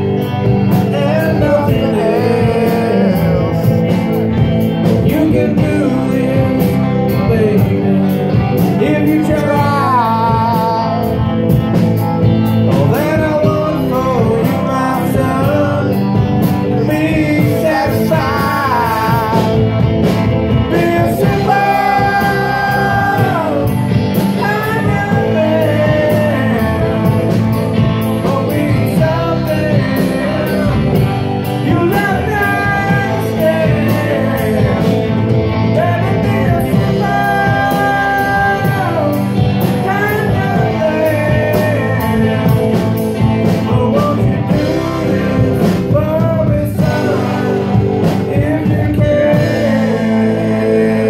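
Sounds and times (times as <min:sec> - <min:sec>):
live rock band playing: 0:00.0 - 0:51.0
person singing: 0:00.0 - 0:51.0.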